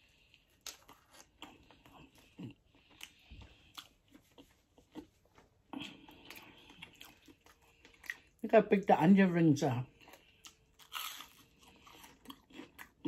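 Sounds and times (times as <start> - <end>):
crunching and chewing fried chicken: 0.0 - 8.5, 9.8 - 13.0.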